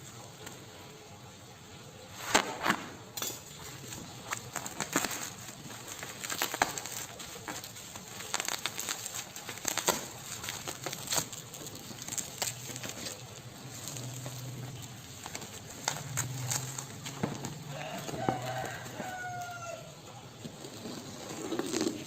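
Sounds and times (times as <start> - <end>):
packaging crinkling and rustling: 3.5 - 22.0.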